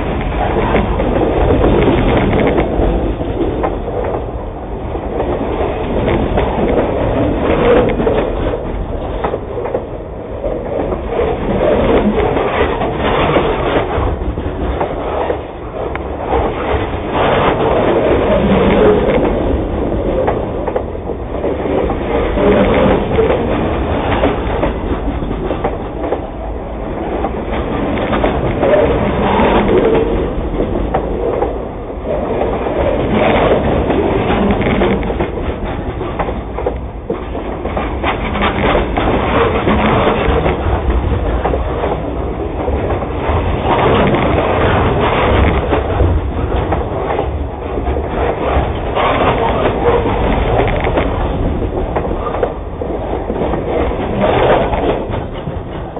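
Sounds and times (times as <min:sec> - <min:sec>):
freight train rumbling on bridge: 0:00.0 - 0:55.9
wheels clattering on rail joints: 0:00.0 - 0:55.9.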